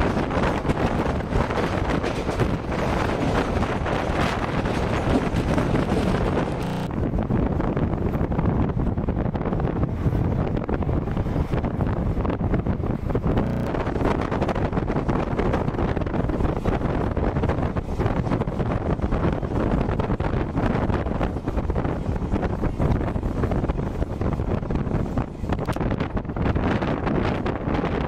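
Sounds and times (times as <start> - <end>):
passenger train rumbling: 0.0 - 28.0
wind buffeting microphone: 0.0 - 28.0.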